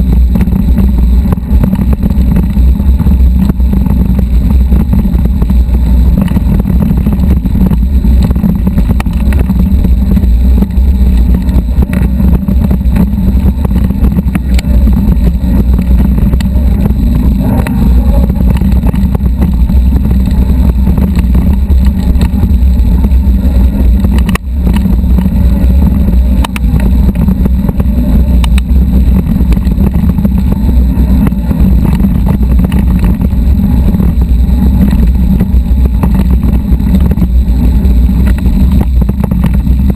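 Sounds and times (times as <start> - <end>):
bike and gravel rattles: 0.0 - 39.9
bike riding rumble: 0.0 - 39.9
loud wind on microphone: 0.0 - 39.9.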